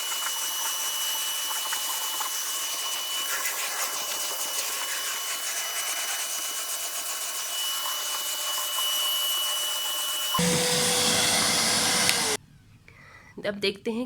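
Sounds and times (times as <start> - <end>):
vacuum cleaner on carpet: 0.0 - 12.4.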